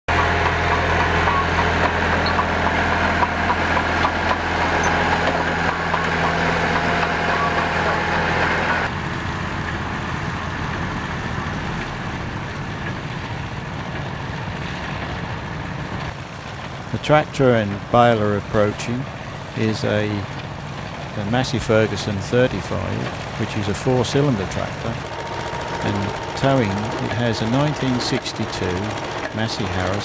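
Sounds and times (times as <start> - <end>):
crawler tractor engine running: 0.1 - 30.0
distant tractor engine drone: 0.1 - 30.0.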